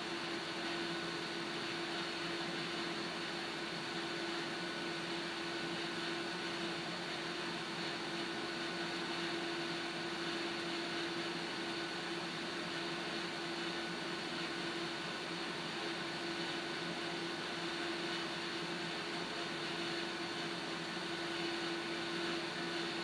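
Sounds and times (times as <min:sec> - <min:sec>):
kettle heating hiss: 0:00.0 - 0:23.0.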